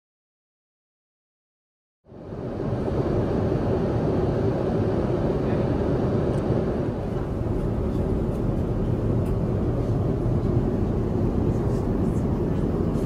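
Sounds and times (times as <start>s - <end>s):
airplane cabin rumble: 2.1s - 13.0s.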